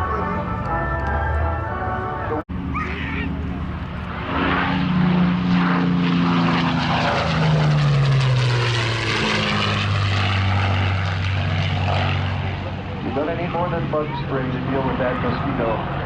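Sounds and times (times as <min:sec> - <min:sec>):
piston aircraft engines droning overhead: 0:00.0 - 0:16.0.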